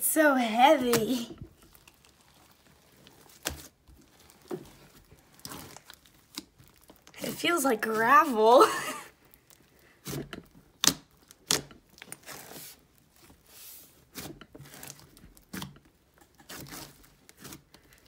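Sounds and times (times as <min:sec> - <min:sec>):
slime squishing: 0:00.6 - 0:08.4, 0:09.1 - 0:18.0
slime crackling and popping: 0:00.8 - 0:08.0, 0:09.1 - 0:18.0.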